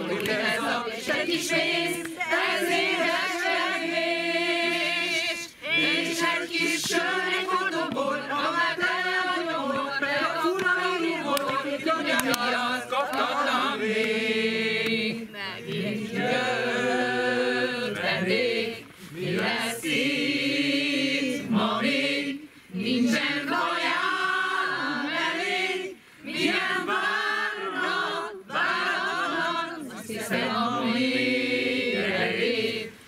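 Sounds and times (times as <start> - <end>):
mixed choir singing unaccompanied: 0.0 - 33.0.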